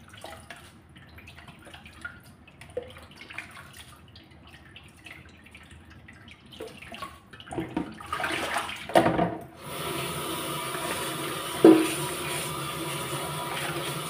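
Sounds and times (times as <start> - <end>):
water splashing and dripping: 0.0 - 9.2, 10.7 - 14.0.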